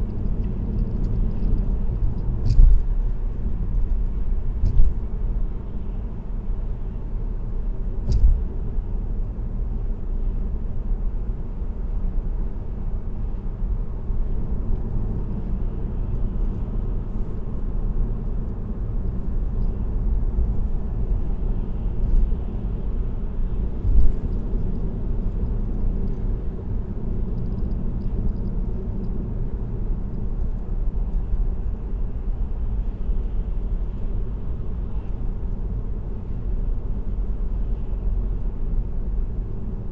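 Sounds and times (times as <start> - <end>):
car tyre and road rumble: 0.0 - 39.9.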